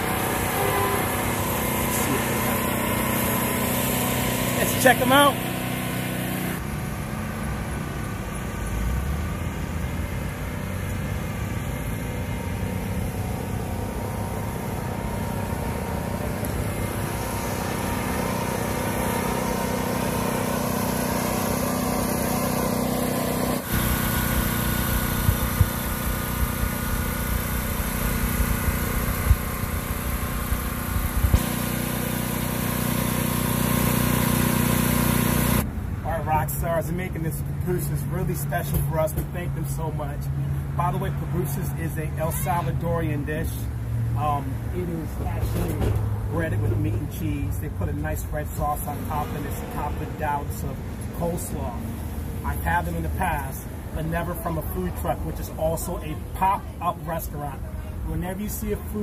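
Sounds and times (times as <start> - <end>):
generator humming: 0.0 - 36.3, 37.0 - 59.0
road traffic: 0.0 - 59.0.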